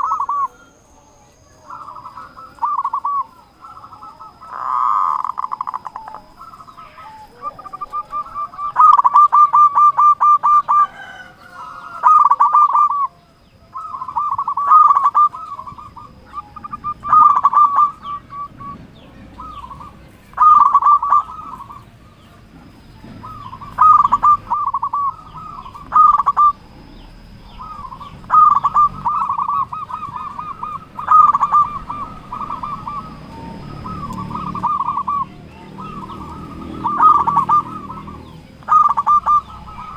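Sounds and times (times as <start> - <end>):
dove cooing trilled phrases: 0.0 - 39.9.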